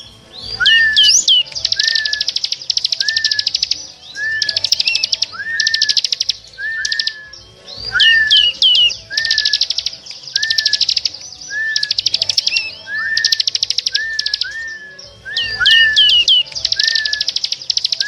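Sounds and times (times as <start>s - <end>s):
songbirds trilling and chirping: 0.0s - 18.0s.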